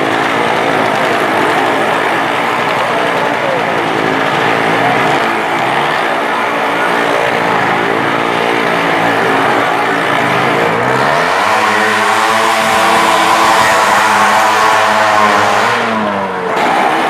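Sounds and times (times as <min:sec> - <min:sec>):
engine revving: 0:00.0 - 0:17.0
vehicle engines running: 0:00.0 - 0:17.0.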